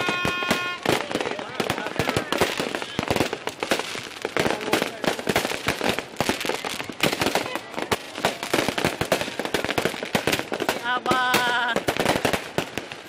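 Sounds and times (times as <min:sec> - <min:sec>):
crowd voices: 0:00.0 - 0:13.0
fireworks cracking and banging: 0:00.0 - 0:13.0.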